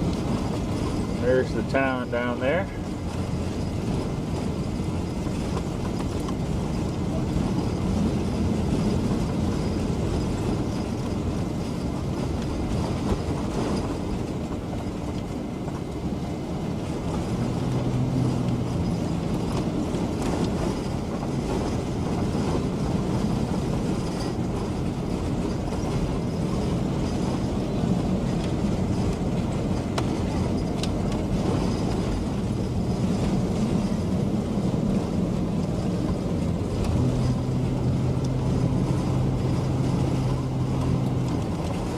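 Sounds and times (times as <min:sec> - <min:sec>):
vehicle engine and road noise: 0:00.0 - 0:41.9.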